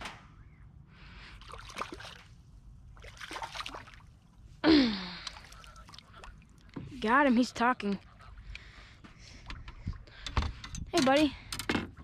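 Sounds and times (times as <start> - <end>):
water splashing and sloshing: 1.3 - 12.0.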